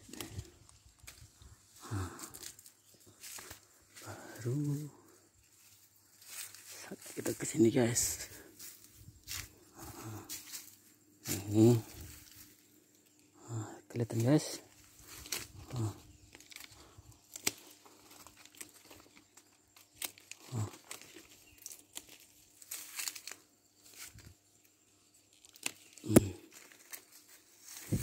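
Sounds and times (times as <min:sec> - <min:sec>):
leaves rustling: 0:00.0 - 0:28.0.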